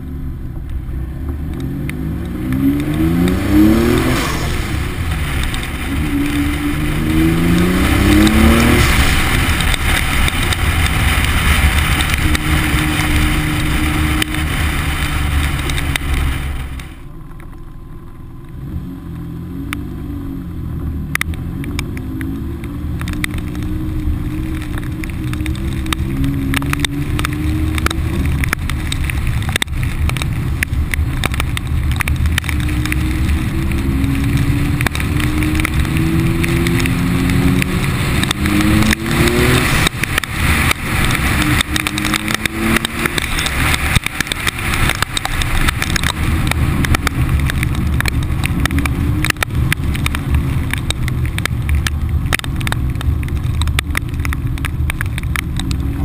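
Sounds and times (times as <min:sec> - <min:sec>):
car engine accelerating hard: 0:00.0 - 0:56.0
wind and road noise: 0:00.0 - 0:56.0
raindrops ticking on camera: 0:00.5 - 0:56.0.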